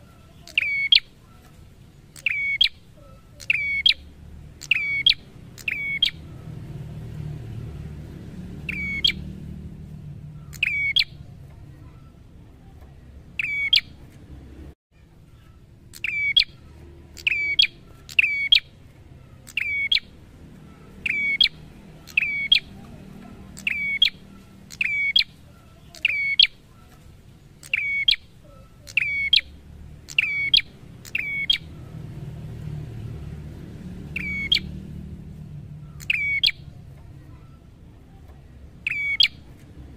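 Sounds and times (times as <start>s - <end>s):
songbird calling: 0.0s - 6.6s, 8.5s - 12.3s, 13.3s - 14.1s, 15.3s - 32.0s, 34.0s - 39.6s.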